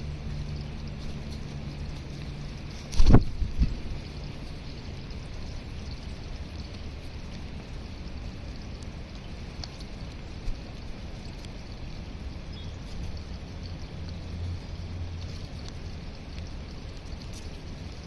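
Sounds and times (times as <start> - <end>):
low outdoor rumble: 0.0 - 18.0
pigeons pecking seed: 0.0 - 18.0.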